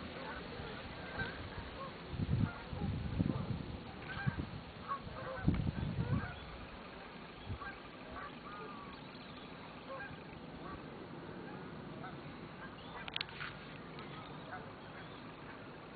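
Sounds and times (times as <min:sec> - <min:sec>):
distant waterfowl calling: 0:00.0 - 0:15.9
steady outdoor hiss: 0:00.0 - 0:15.9.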